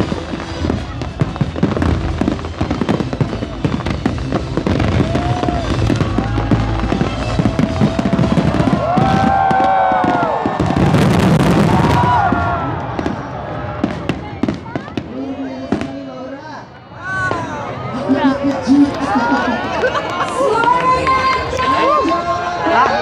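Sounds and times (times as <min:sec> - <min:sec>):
fireworks popping and crackling: 0:00.0 - 0:16.2, 0:17.2 - 0:23.0.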